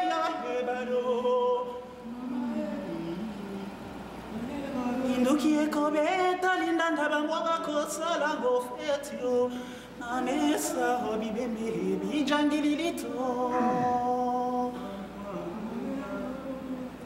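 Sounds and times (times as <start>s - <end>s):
person singing unaccompanied: 0.0s - 3.7s, 4.3s - 17.0s.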